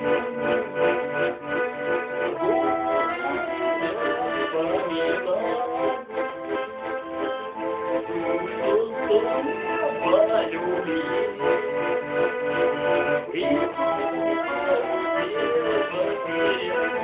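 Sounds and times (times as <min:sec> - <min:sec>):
button accordion melody: 0:00.0 - 0:17.0.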